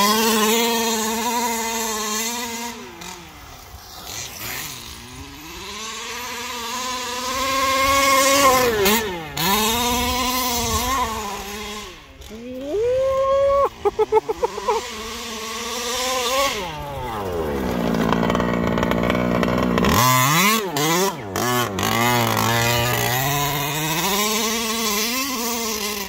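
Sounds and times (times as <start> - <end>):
rc truck engine revving: 0.0 - 26.0.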